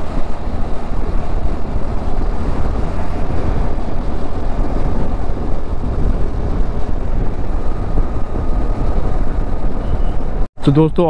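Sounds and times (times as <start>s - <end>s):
motorcycle engine and wind rumble: 0.0s - 11.0s.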